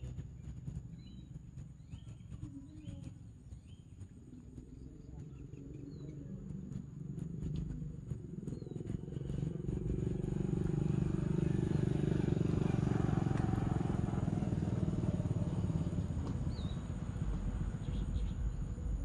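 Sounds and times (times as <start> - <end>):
faint bird chirping: 0.0 - 19.0
vehicle engine running: 0.0 - 19.0.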